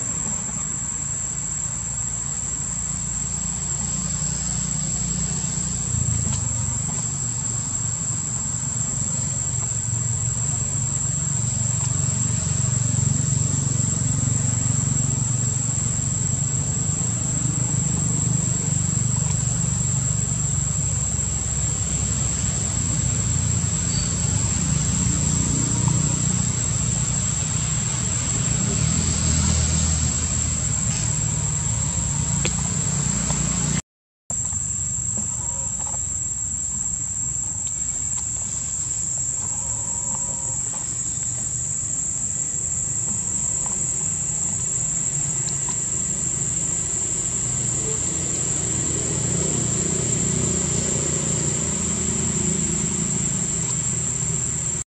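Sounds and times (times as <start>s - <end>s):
high-pitched insect drone: 0.0s - 54.8s.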